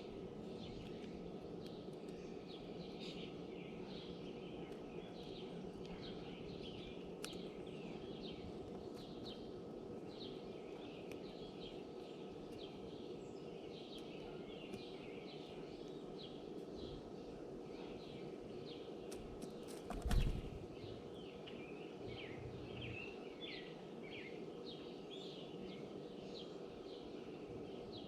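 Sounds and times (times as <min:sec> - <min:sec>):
small songbirds chirping: 0:00.0 - 0:28.0
steady low hum: 0:00.0 - 0:28.0.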